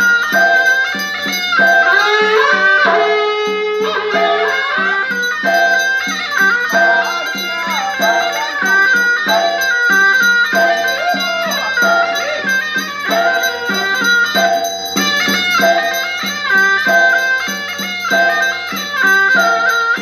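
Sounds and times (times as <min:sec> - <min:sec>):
reedy wind instrument melody: 0:00.0 - 0:20.0
steady percussion beat: 0:00.0 - 0:20.0.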